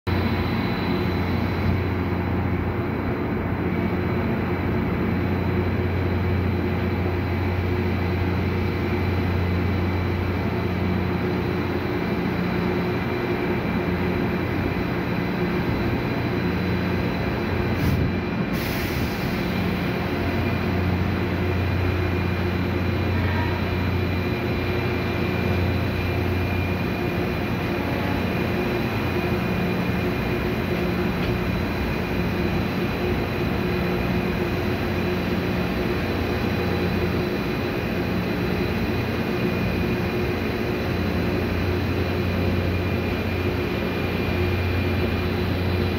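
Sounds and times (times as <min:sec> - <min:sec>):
diesel locomotive engine drone: 0:00.1 - 0:45.9
train wheels rumbling on track: 0:00.1 - 0:45.9.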